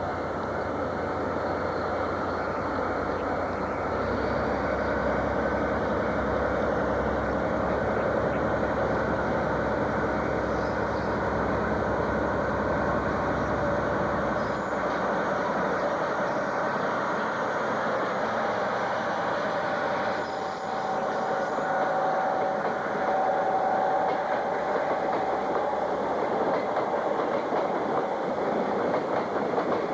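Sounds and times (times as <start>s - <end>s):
diesel train rumbling: 0.0s - 29.9s.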